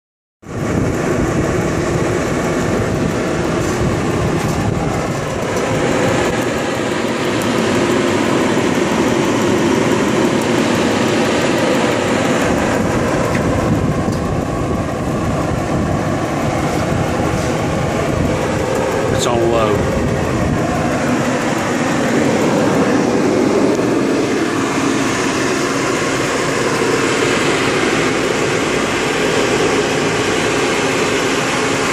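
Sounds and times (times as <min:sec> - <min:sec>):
forced-air heater running: 0:00.4 - 0:31.9.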